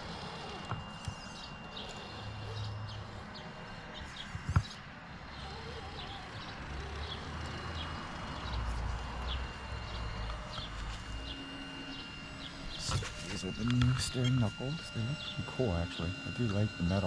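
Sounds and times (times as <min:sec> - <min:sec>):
small birds chirping: 0:00.0 - 0:17.0
toy truck motor whirring: 0:00.0 - 0:17.0.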